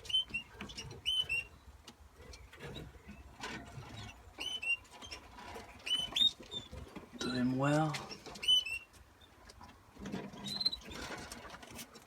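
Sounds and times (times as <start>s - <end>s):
canaries chirping: 0.0s - 9.4s, 10.4s - 11.2s.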